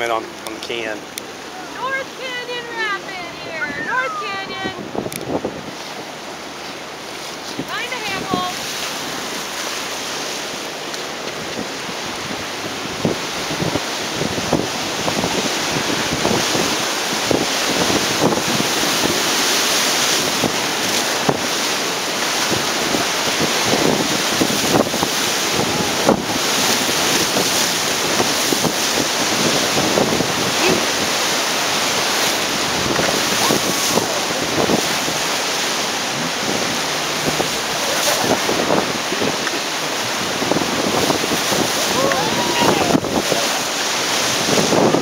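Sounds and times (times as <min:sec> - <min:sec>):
river rapid rushing: 0:00.0 - 0:45.0
waves splashing against a raft: 0:00.0 - 0:45.0.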